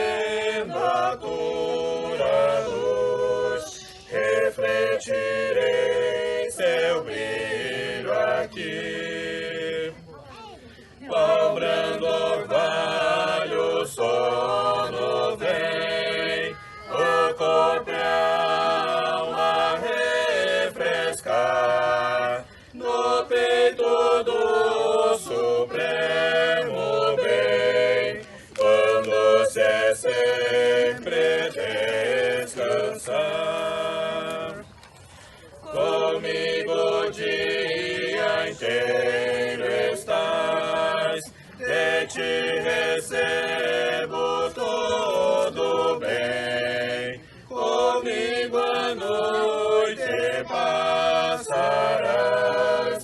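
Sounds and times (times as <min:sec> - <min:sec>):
group singing a slow hymn: 0:00.0 - 0:53.0.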